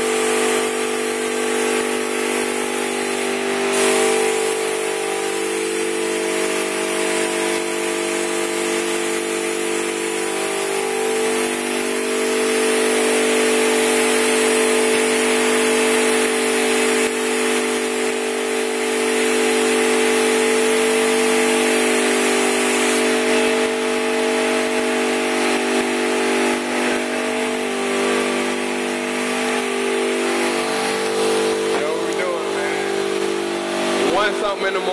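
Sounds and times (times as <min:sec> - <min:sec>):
spray gun hissing: 0:00.0 - 0:34.9.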